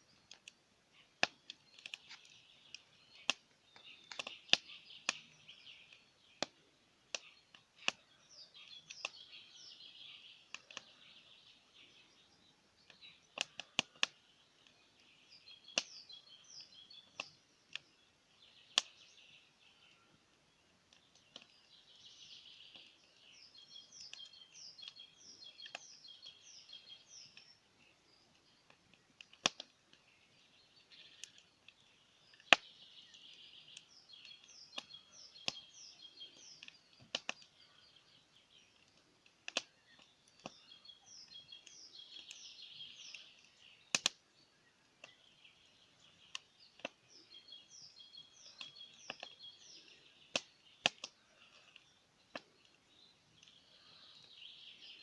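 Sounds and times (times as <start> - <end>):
birds chirping: 0.0 - 55.0
wood fire crackling and popping: 0.0 - 55.0.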